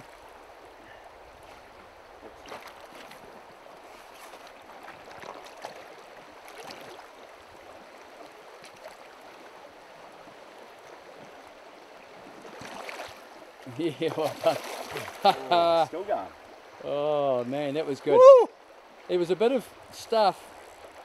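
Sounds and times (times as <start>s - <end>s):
light water splashes: 0.0s - 21.0s
stream running over stones: 0.0s - 21.0s.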